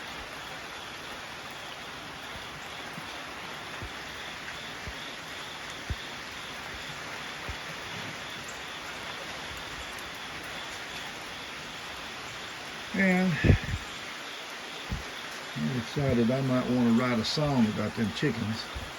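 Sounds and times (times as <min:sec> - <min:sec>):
raindrops tapping close by: 0:00.0 - 0:18.9
steady rain falling: 0:00.0 - 0:18.9.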